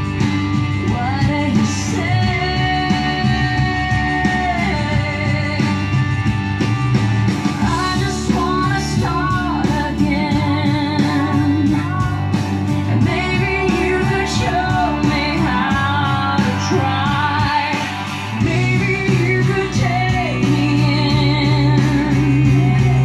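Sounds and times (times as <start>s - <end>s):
pop song over loudspeakers: 0.0s - 23.0s.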